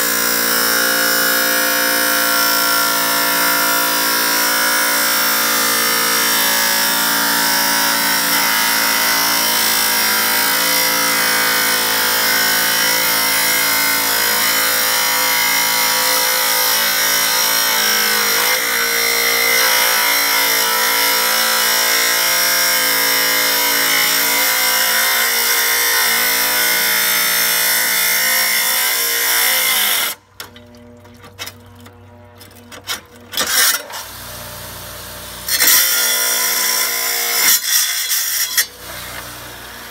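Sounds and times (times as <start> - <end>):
tile saw grinding through tile: 0.0 - 30.2, 32.4 - 39.9.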